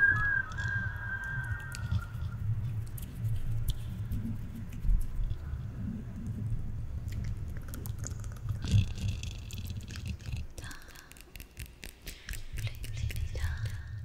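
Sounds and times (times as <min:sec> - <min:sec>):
wet mouth clicks: 0:00.5 - 0:05.5, 0:07.0 - 0:14.0.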